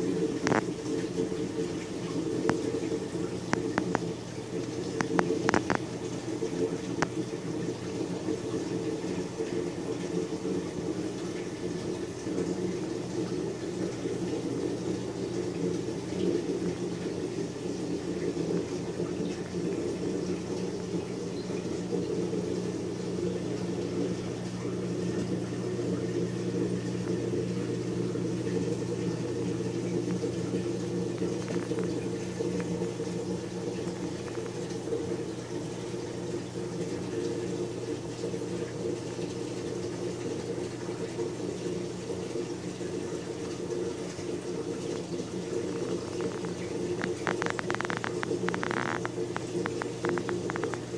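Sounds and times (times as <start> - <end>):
aquarium pump hum: 0.0 - 50.9
water rushing and gurgling: 0.0 - 50.9.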